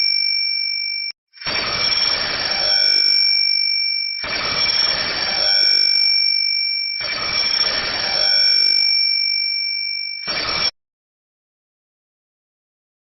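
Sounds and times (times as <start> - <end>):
phone alert ringtone: 0.0 - 10.7.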